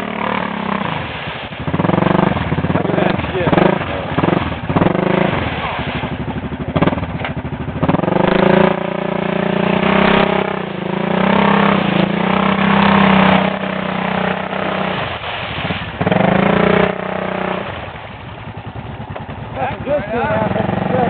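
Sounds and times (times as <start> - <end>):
quad engine revving: 0.0 - 21.0.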